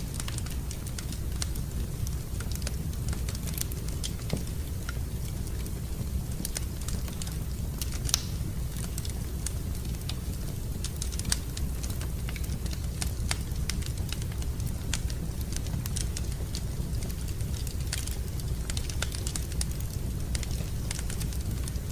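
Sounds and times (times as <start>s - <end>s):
fire crackling and popping: 0.0s - 21.9s
low fire rumble: 0.0s - 21.9s.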